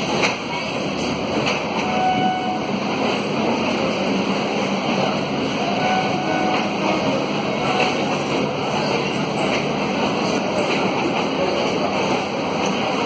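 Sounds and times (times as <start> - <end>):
train wheels rolling: 0.0 - 13.0.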